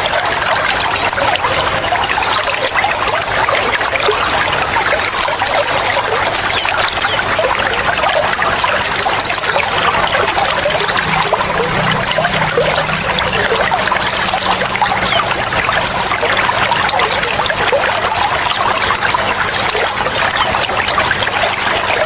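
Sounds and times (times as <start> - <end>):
songbirds chirping: 0.0 - 22.0
trickling water: 0.0 - 22.0.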